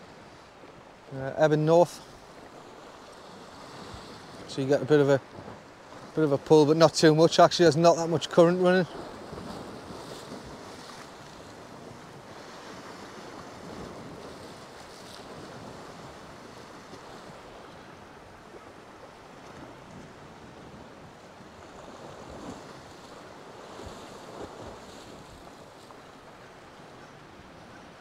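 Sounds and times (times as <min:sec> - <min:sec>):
waves breaking against rocks: 0:00.0 - 0:28.0
wind buffeting microphone: 0:02.2 - 0:28.0.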